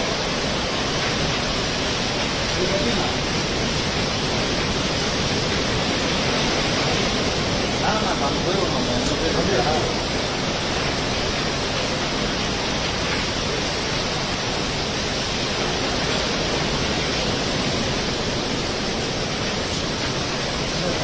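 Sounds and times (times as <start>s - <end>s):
rough sea: 0.0s - 21.0s
strong wind: 0.0s - 21.0s.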